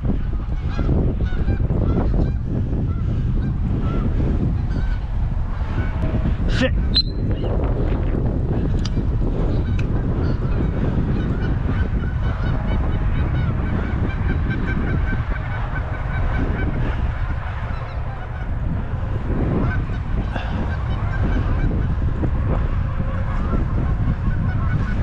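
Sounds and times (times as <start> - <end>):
wind rumble on microphone: 0.0 - 25.0
geese honking: 0.1 - 6.2, 9.4 - 25.0.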